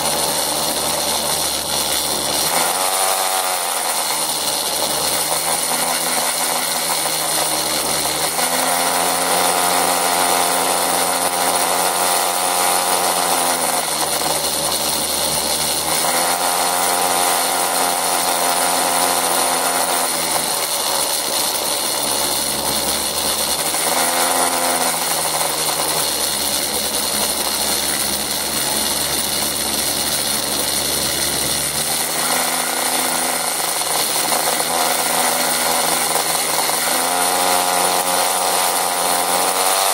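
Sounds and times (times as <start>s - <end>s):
motor scooter engine running: 0.0s - 39.9s.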